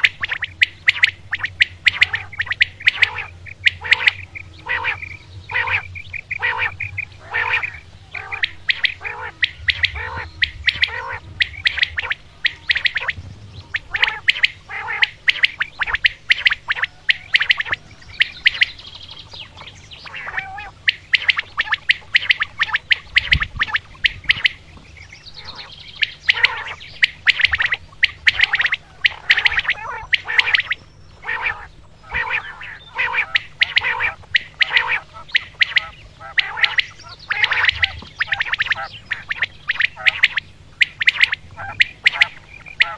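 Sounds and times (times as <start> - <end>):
faint low hum: 0.0 - 42.9
quail calling: 0.0 - 42.9.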